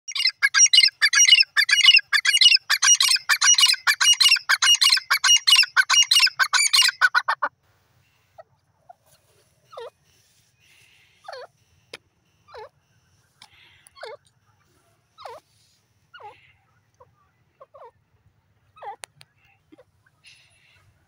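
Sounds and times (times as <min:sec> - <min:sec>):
francolin calling: 0:00.1 - 0:21.0.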